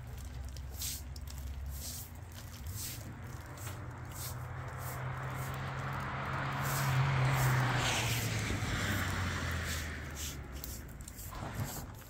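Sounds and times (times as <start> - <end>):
broom sweeping wet concrete: 0.0 - 12.0.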